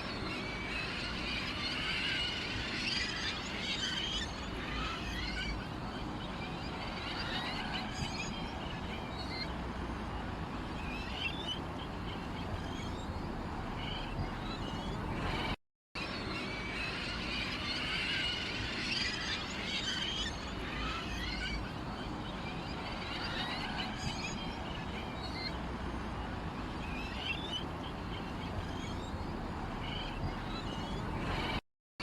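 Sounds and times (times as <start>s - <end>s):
flock of small birds chirping: 0.0s - 31.6s.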